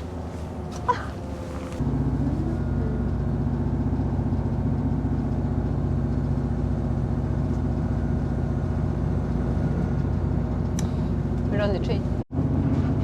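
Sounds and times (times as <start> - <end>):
train engine droning: 0.0 - 13.0.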